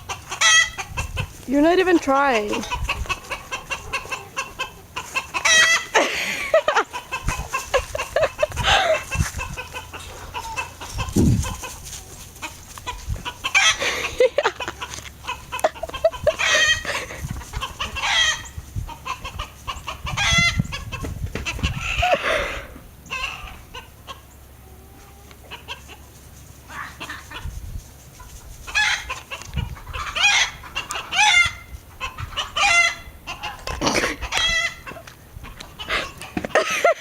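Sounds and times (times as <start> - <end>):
chickens clucking: 0.0 - 37.0
chickens squawking: 0.0 - 37.0.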